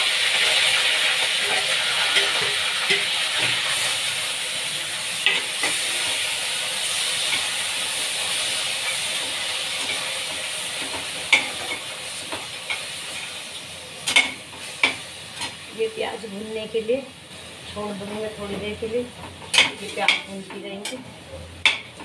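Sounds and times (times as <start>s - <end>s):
onion sizzling in hot oil: 0.0s - 22.0s.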